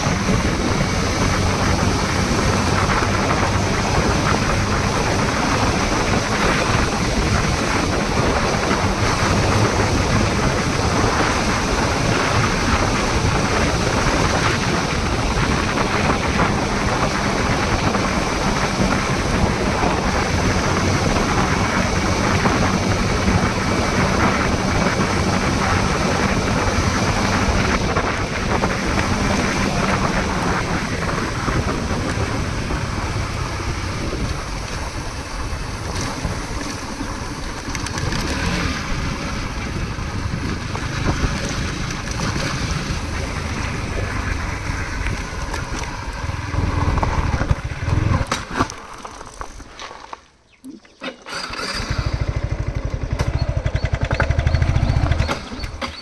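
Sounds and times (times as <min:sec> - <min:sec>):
vehicle engine running: 0:00.0 - 0:48.4, 0:51.4 - 0:56.0
wind rushing over microphone: 0:00.0 - 0:48.9.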